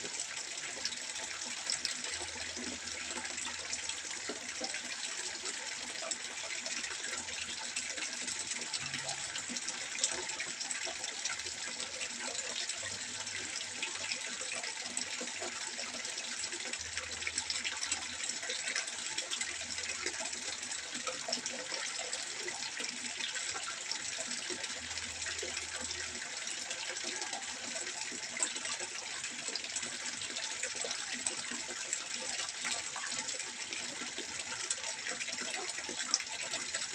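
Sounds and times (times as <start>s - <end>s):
water trickling into pond: 0.0s - 36.9s.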